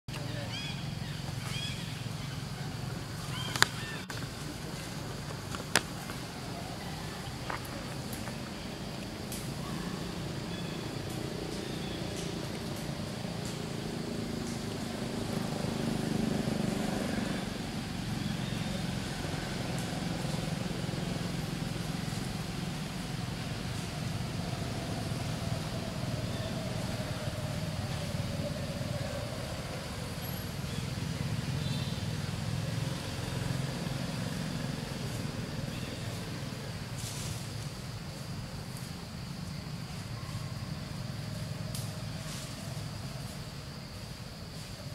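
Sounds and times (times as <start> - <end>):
engine running rumble: 0.1 - 44.9.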